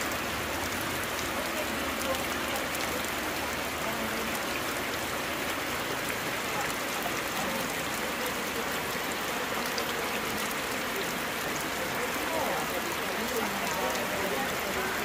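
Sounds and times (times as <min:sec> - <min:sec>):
rain falling: 0:00.0 - 0:15.0
river flowing: 0:00.0 - 0:15.0.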